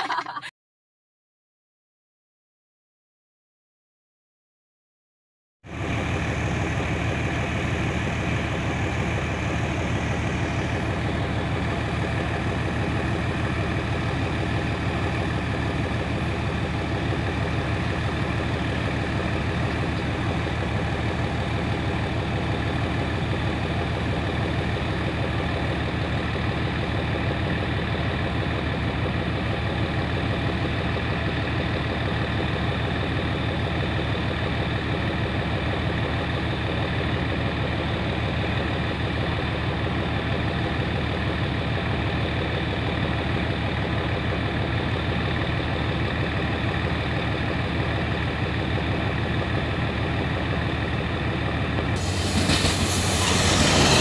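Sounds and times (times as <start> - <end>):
diesel locomotive idling: 5.7 - 54.0.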